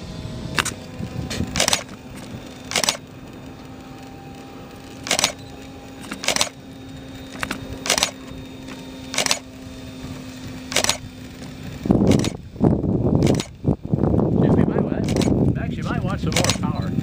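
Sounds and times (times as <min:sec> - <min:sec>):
faint model plane engine hum: 0:00.0 - 0:17.0
wind buffeting microphone: 0:00.0 - 0:17.0
scratchy camera noises: 0:00.5 - 0:17.0.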